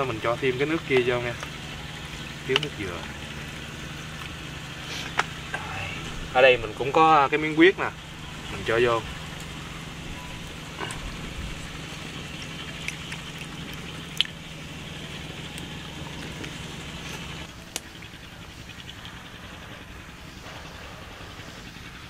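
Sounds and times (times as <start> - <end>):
low hum: 0.0 - 22.0
wood fire crackling: 0.0 - 22.0.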